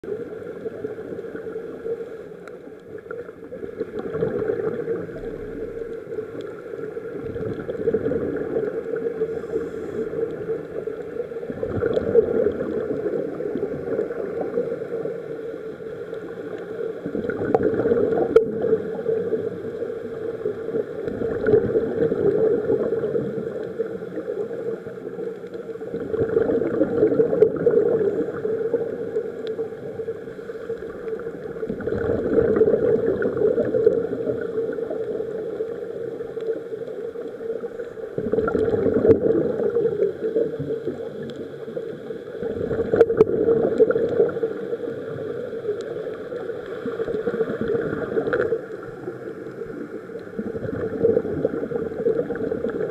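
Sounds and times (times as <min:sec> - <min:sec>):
exhaled bubbles gurgling underwater: 0:00.0 - 0:52.9
steady underwater hum: 0:00.0 - 0:52.9.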